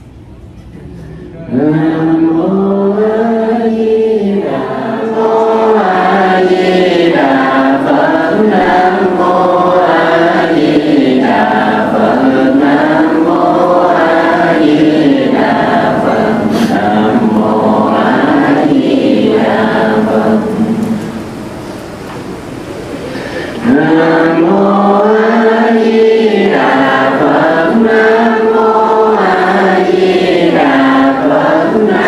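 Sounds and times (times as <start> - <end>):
group chanting in unison: 1.5 - 21.2, 23.5 - 32.0.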